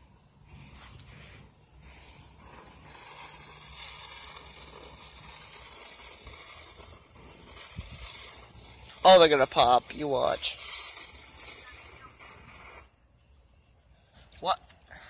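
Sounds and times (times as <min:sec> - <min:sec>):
ground-spinner firework hissing: 0:00.0 - 0:15.0.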